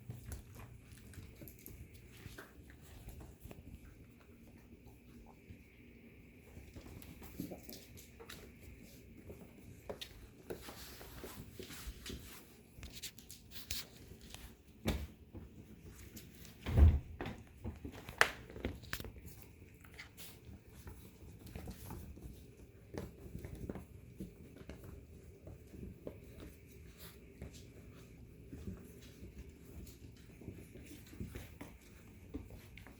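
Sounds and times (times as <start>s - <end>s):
puppies playing on hard floor: 0.0s - 32.9s.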